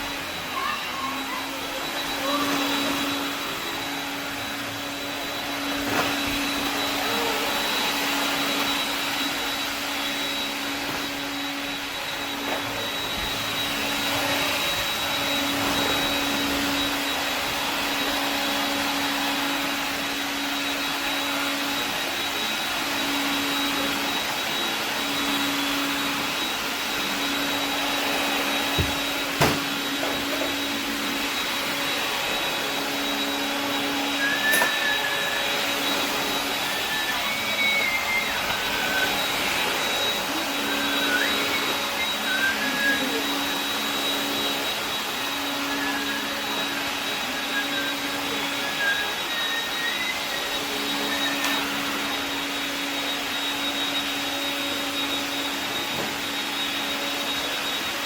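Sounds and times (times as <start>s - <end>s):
stick vacuum motor humming: 0.0s - 58.0s.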